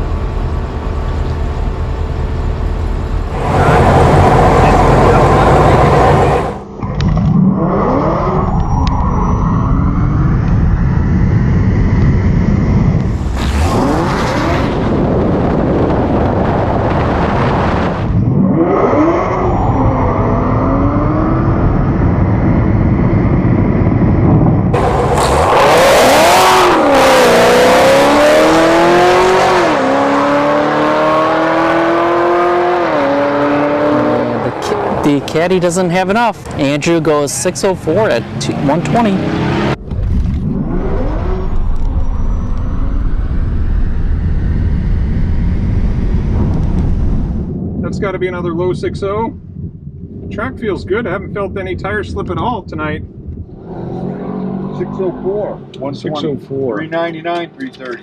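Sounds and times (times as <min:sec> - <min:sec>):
car engine at full throttle: 0:00.0 - 0:48.0, 0:53.1 - 0:58.0.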